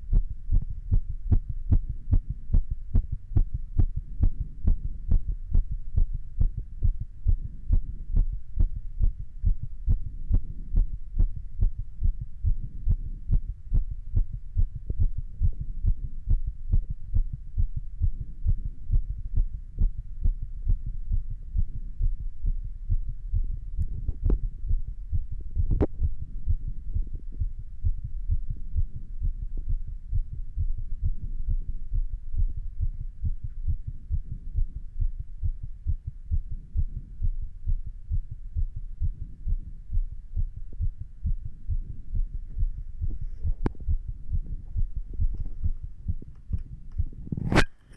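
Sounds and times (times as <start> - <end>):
fast heartbeat thumps: 0.0 - 47.6.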